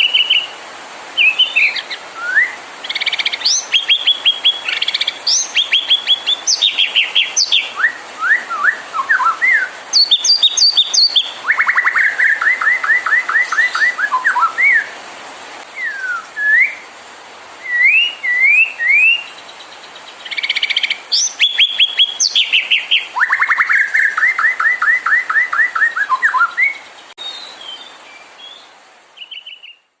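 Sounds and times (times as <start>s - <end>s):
songbird singing: 0.0s - 15.0s, 15.6s - 16.9s, 17.5s - 30.0s.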